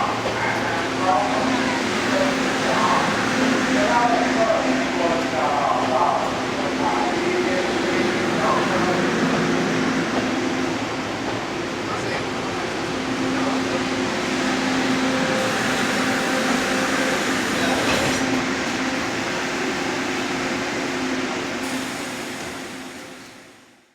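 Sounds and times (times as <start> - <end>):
broad rushing noise: 0.0 - 20.2
electric train low hum: 0.0 - 23.9.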